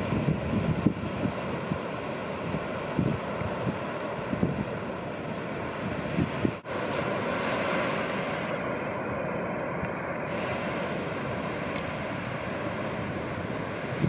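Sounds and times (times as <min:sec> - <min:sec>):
heavy surf roaring: 0:00.0 - 0:14.0
wind on microphone: 0:00.0 - 0:14.0.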